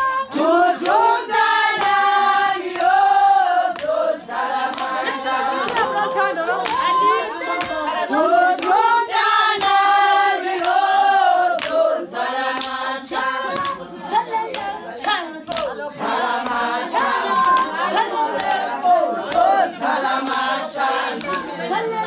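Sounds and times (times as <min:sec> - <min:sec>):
women singing together: 0:00.0 - 0:22.0
hand clapping: 0:00.8 - 0:22.0.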